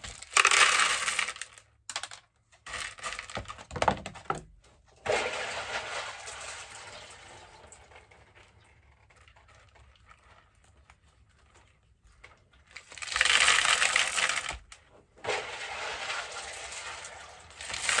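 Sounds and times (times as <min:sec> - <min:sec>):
clay pebbles pouring: 0:00.0 - 0:03.6, 0:05.0 - 0:18.0.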